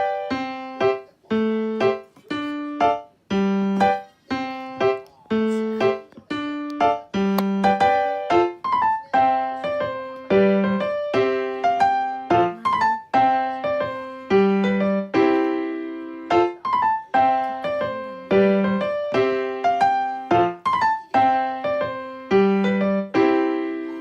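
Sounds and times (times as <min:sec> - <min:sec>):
light piano tune: 0:00.0 - 0:24.0.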